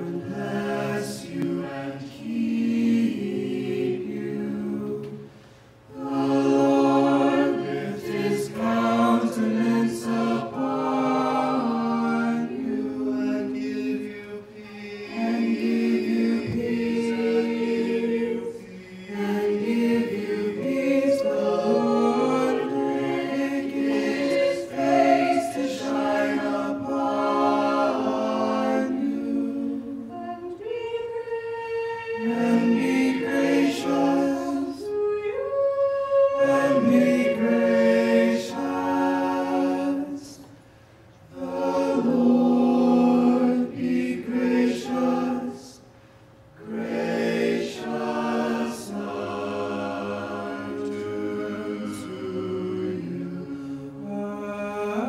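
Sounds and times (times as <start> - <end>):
choir singing a cappella: 0.0 - 40.6, 41.2 - 55.0.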